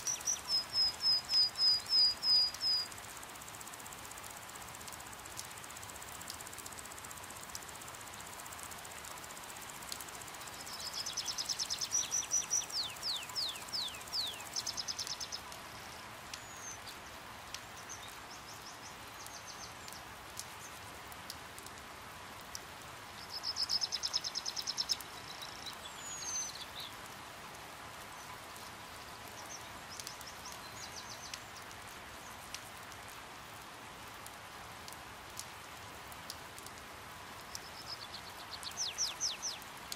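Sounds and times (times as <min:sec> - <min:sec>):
faint dripping: 0:00.0 - 0:39.9
rain hissing: 0:00.0 - 0:39.9.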